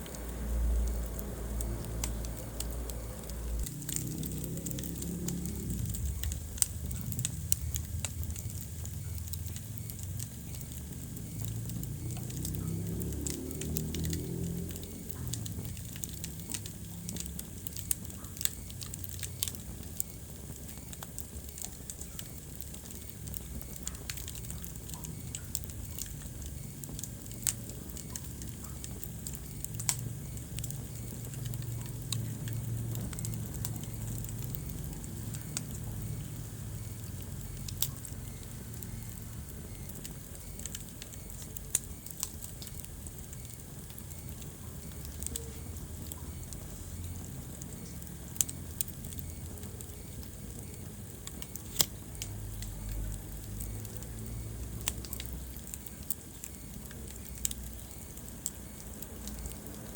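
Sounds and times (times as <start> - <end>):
crackles and pops of fire: 0.0 - 59.9
wood fire burning: 0.0 - 59.9.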